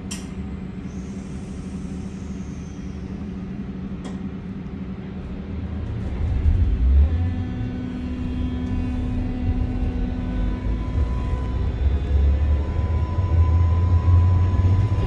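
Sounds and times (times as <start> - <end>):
train rumble inside car: 0.0 - 15.0.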